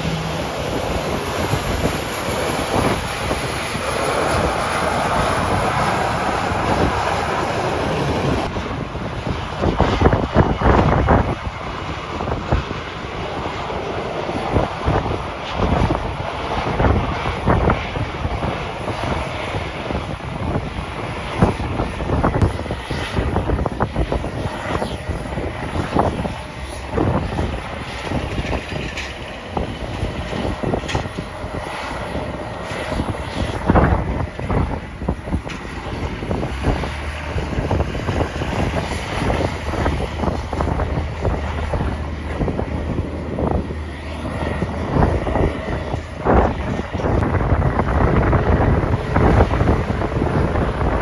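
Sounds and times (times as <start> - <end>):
jet engines whine and rush: 0.0 - 51.0.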